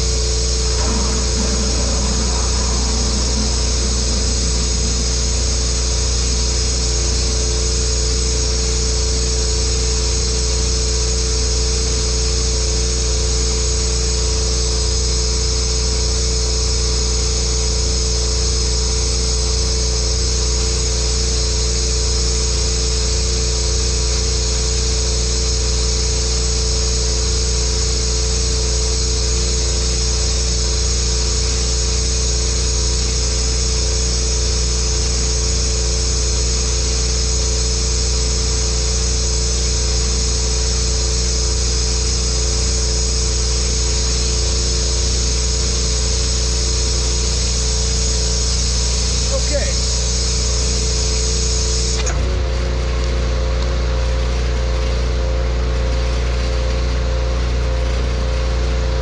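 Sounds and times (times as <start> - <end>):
pressure washer running: 0.0 - 59.0.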